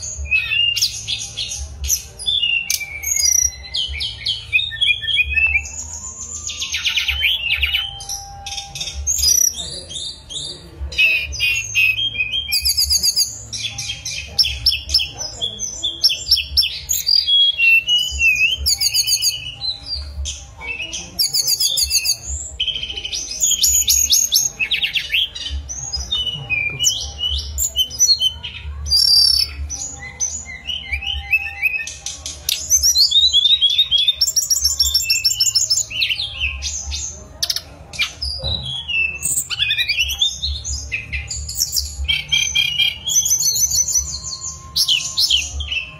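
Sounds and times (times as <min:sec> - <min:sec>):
flycatcher singing: 0:00.0 - 0:45.9.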